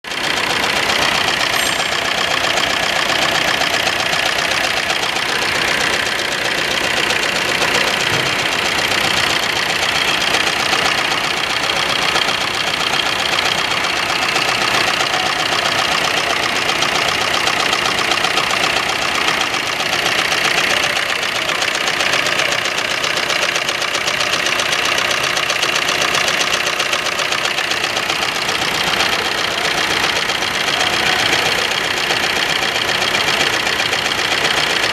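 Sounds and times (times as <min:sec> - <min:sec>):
diesel engine knocking clatter: 0:00.0 - 0:34.9.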